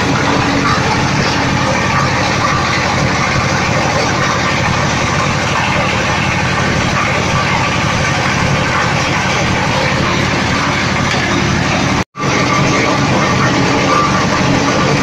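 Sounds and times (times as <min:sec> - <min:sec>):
oil press machine running: 0:00.0 - 0:15.0.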